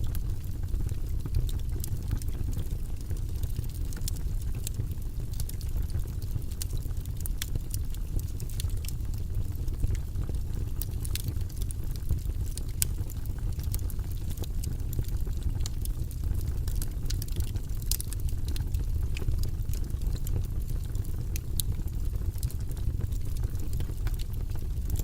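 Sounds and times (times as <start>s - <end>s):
fire crackling in a fireplace: 0.0s - 25.0s.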